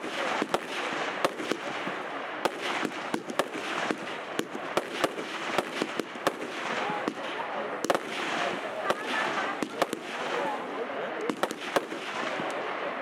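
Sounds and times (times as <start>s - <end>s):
firework bangs: 0.0s - 10.6s, 11.2s - 13.0s
firework crackling: 0.0s - 12.7s.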